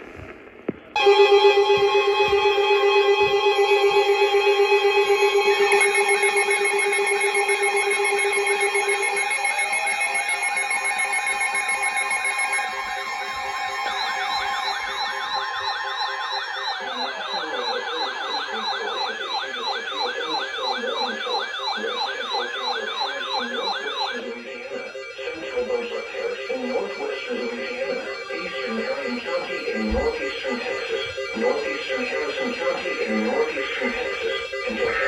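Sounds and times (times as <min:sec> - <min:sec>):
electronic siren alarm: 0:01.0 - 0:35.0.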